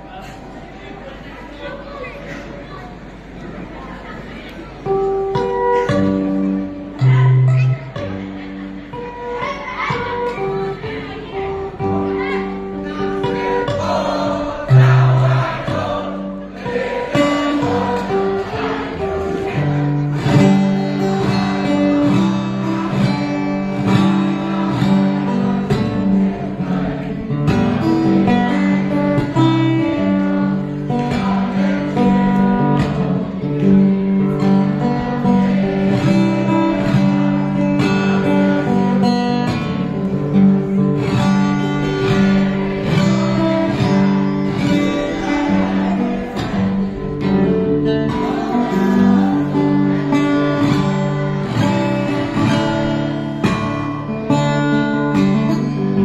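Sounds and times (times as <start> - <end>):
fingerstyle acoustic guitar: 4.7 - 56.0.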